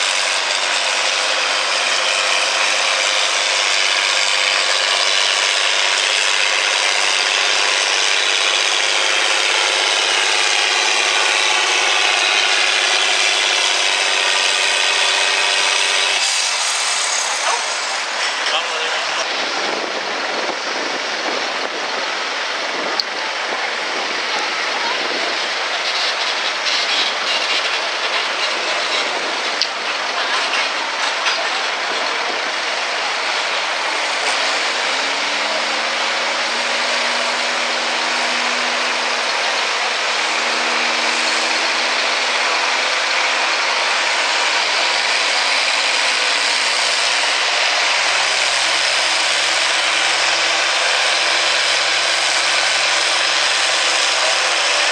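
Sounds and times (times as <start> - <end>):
tractor engine revving: 0.0 - 54.9.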